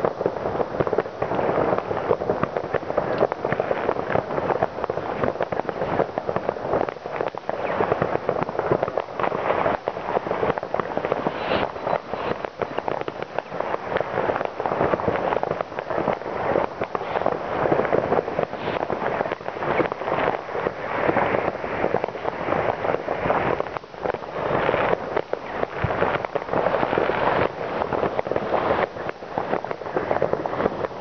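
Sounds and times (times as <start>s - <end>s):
distant fireworks crackling: 0.0s - 31.0s.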